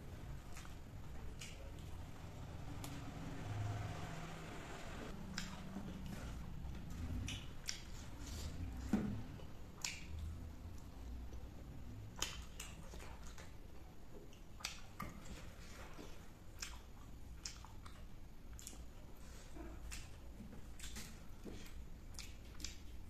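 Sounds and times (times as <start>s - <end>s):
person chewing: 0.0s - 2.1s, 5.1s - 23.0s.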